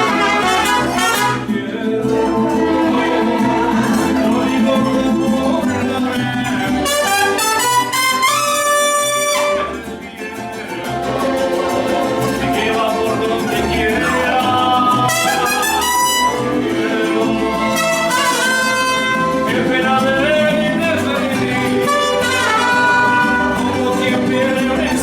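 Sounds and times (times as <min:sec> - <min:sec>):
mariachi band playing: 0:00.0 - 0:25.0.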